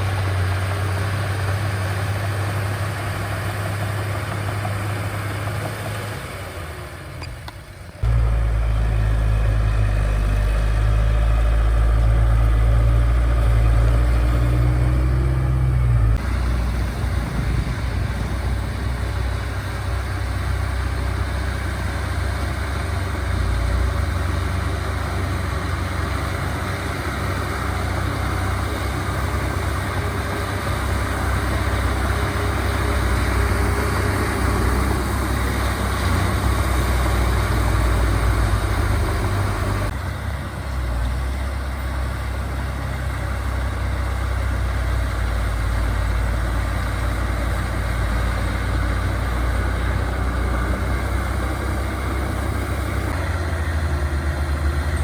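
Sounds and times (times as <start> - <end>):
heavy diesel machinery rumbling: 0.0 - 55.0.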